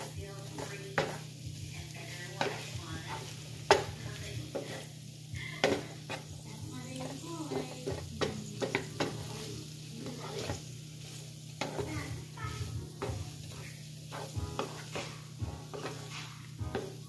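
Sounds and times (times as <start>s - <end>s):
spatula scraping and knocking pan: 0.0s - 5.0s, 5.6s - 17.0s
food sizzling in a skillet: 0.0s - 17.0s.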